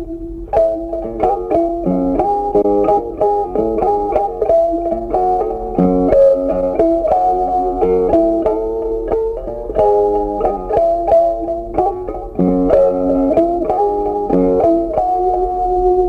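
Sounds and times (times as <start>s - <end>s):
plucked guitar tune: 0.0s - 16.0s.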